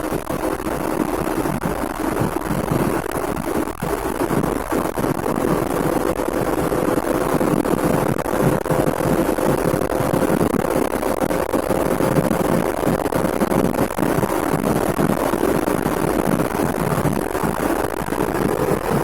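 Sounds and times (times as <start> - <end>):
car engine drone: 0.0 - 19.0
road and wind noise: 0.0 - 19.0.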